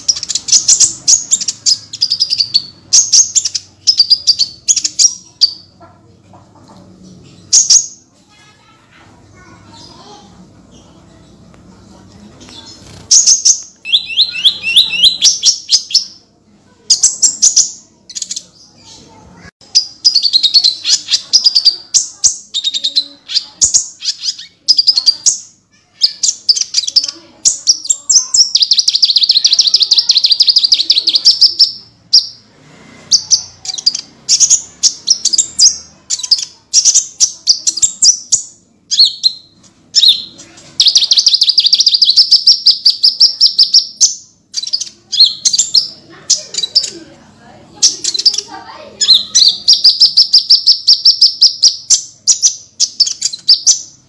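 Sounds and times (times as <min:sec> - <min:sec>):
small bird singing rapid trills: 0:00.0 - 0:05.8, 0:12.5 - 0:16.2, 0:16.9 - 0:32.4, 0:33.1 - 0:47.0, 0:47.8 - 0:54.0.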